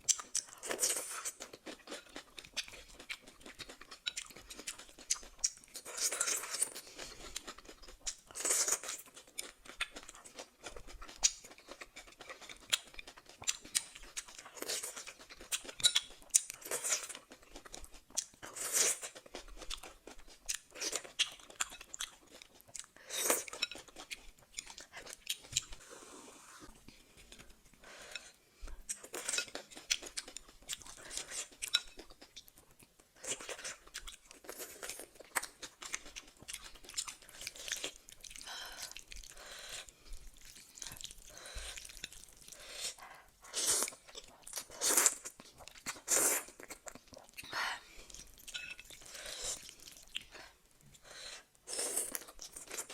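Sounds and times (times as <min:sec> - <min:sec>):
wet chewing and crunching: 0:00.0 - 0:25.8, 0:26.9 - 0:52.9.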